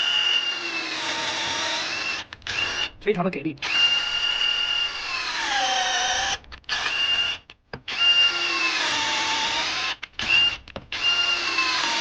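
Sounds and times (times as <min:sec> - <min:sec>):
cordless drill boring into wood: 0:00.0 - 0:03.0, 0:03.6 - 0:12.0.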